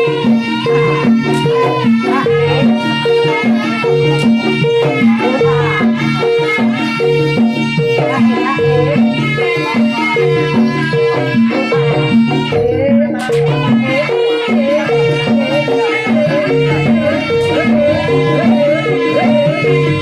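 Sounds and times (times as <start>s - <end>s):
traditional ensemble music: 0.0s - 20.0s.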